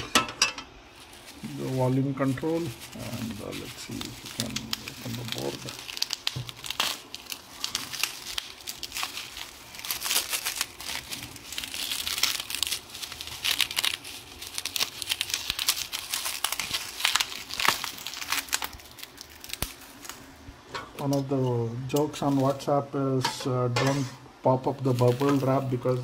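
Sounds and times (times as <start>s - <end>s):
bubble wrap crinkling: 0.8s - 21.3s, 21.9s - 22.8s, 24.4s - 26.0s.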